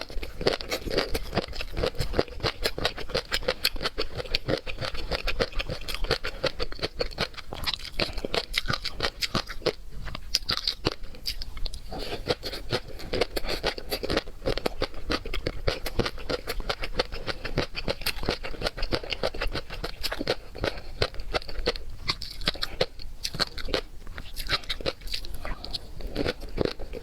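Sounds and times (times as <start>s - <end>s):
person chewing crunchy food: 0.0s - 27.0s.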